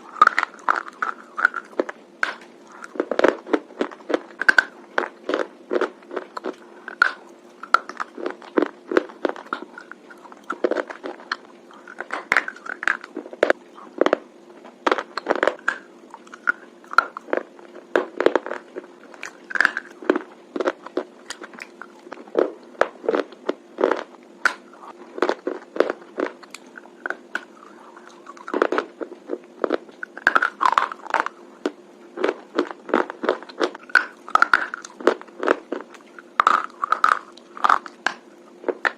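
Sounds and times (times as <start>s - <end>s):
crunching of chewing a hard bar: 0.0s - 38.9s
faint steady hum: 0.0s - 38.9s.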